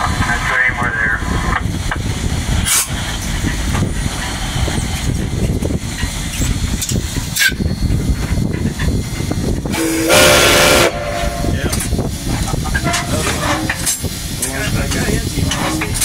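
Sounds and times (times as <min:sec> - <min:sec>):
steam locomotive rumble: 0:00.0 - 0:16.0.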